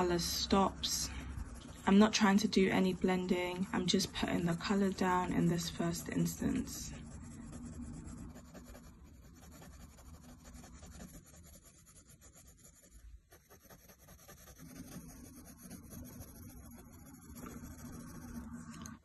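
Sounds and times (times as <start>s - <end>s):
coloured pencils scratching on paper: 0.0s - 19.0s.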